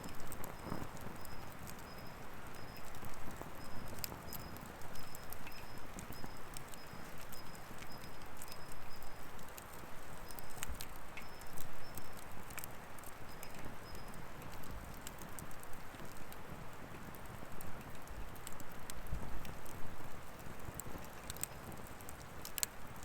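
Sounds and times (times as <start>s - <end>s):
firewood crackling: 0.0s - 23.0s.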